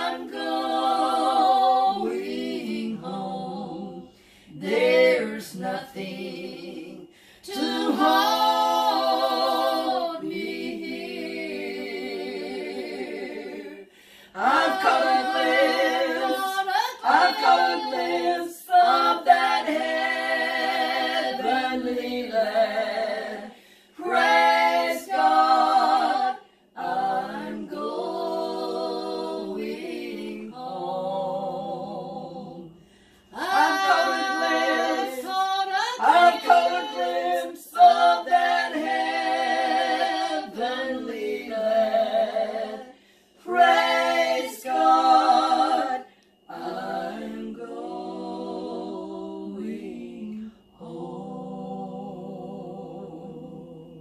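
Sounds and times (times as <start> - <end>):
women singing a cappella: 0.0 - 54.0.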